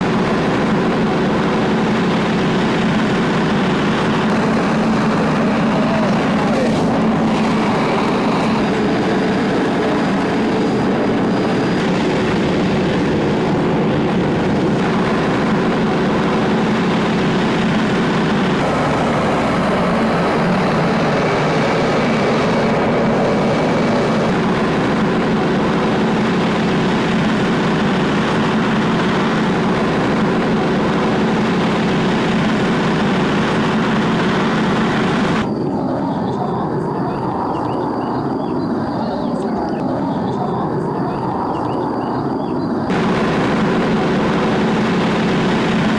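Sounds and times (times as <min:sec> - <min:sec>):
faint turbine whine: 0:00.0 - 0:45.9
jet engines roaring: 0:00.0 - 0:45.9.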